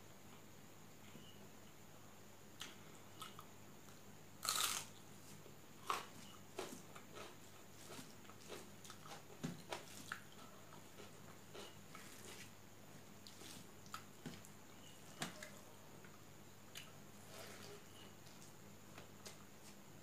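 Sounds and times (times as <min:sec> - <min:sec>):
chewing with small crunches: 0:02.6 - 0:19.9.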